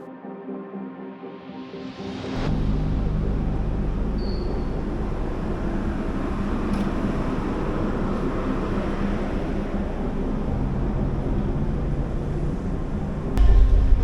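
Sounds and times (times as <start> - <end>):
ferry engine droning: 2.4 - 14.0.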